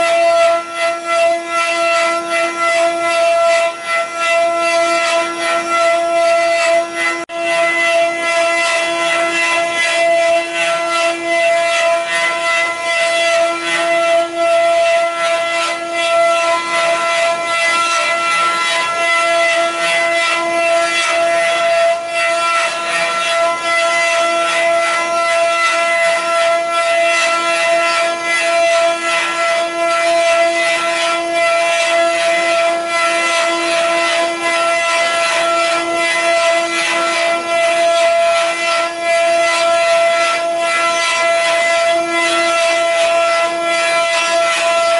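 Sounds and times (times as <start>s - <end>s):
cutters carving wood: 0.0s - 44.9s
router spindles whining: 0.0s - 44.9s.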